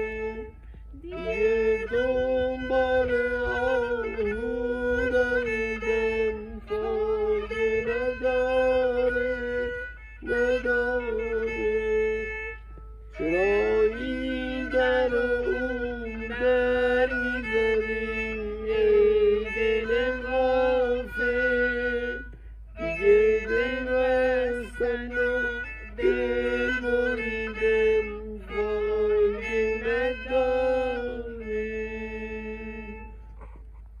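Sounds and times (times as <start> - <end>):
bowed fiddle melody: 0.0 - 34.0.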